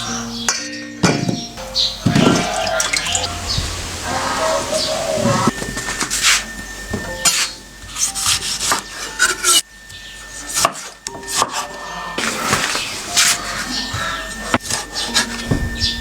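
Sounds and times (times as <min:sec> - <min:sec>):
scraping and rubbing strokes: 0:02.4 - 0:16.0.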